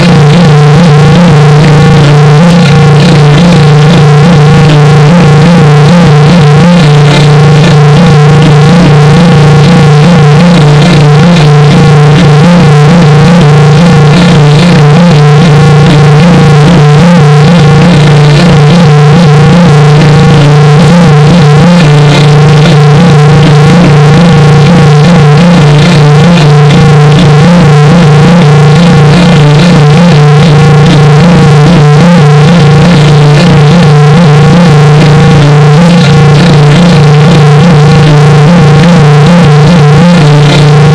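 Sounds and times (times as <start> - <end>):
low synthesized drone: 0.0 - 40.9.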